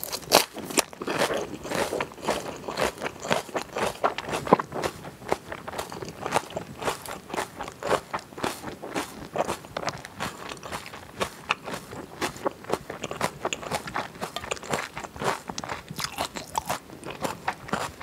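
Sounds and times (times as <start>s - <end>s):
chewing mouth clicks and smacks: 0.0s - 18.0s.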